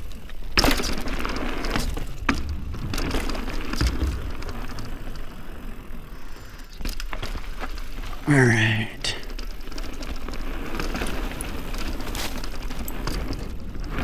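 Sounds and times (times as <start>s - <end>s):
bike tyres rumbling on dirt: 0.0s - 8.2s, 9.3s - 14.0s.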